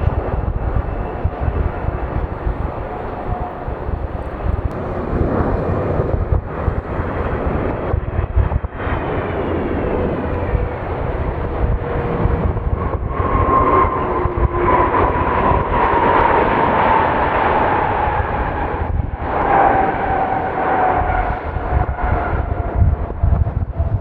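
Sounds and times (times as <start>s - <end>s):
jet engine whine: 0.0s - 24.0s
jet engines roaring: 0.0s - 24.0s.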